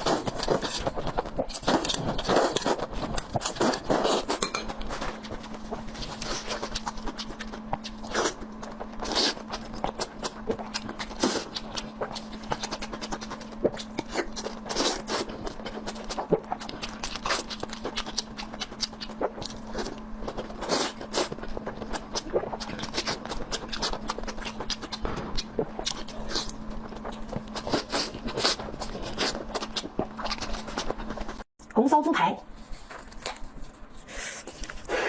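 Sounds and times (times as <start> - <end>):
chewing and wet smacking: 0.0 - 31.4
steady low hum: 0.0 - 35.0.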